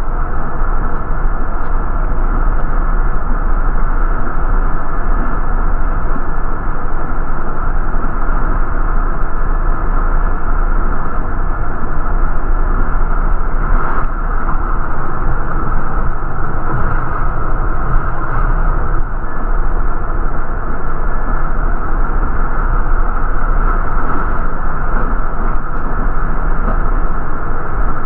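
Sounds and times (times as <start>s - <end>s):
bus rumbling inside cabin: 0.0s - 28.0s.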